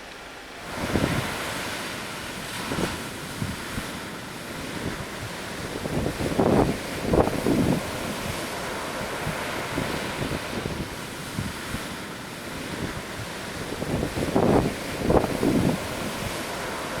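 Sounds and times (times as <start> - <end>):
ocean surf washing: 0.0 - 17.0
wind buffeting microphone: 0.6 - 17.0.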